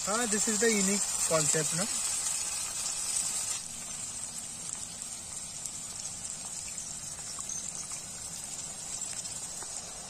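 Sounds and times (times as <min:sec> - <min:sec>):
small crackles of frying: 0:00.0 - 0:10.0
vegetables sizzling in hot oil: 0:00.0 - 0:10.0.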